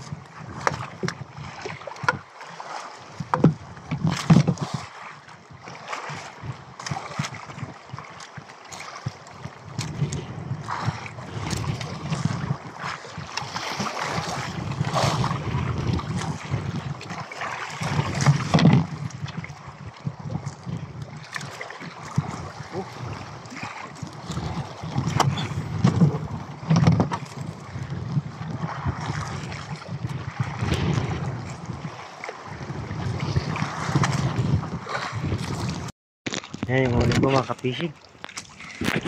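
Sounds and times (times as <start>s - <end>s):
knocks and bumps on hull: 0.0s - 2.3s, 3.1s - 4.9s, 5.6s - 32.0s, 32.6s - 37.7s, 38.3s - 39.0s
wind buffeting microphone: 0.0s - 2.3s, 3.1s - 35.9s, 36.5s - 39.0s
water washing against boat: 0.0s - 39.0s.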